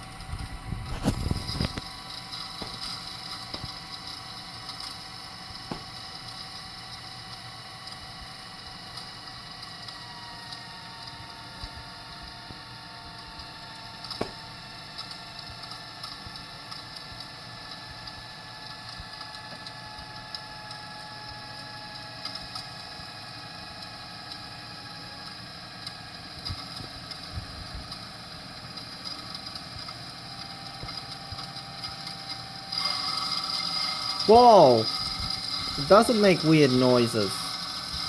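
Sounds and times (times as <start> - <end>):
tape motor whine: 0.0 - 38.0.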